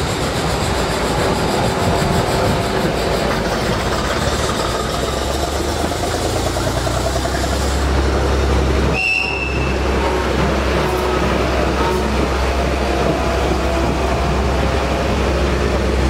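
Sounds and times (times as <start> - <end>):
truck diesel engine rumble: 0.0 - 16.0.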